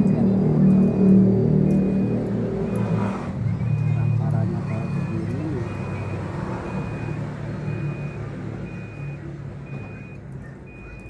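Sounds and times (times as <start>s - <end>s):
engine running: 0.0s - 10.8s
reversing alarm beeping: 0.0s - 11.0s.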